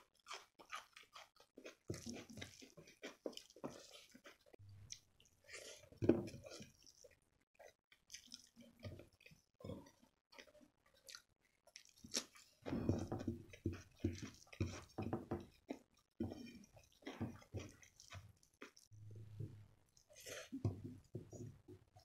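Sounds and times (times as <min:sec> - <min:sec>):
wet chewing: 0:00.0 - 0:19.0.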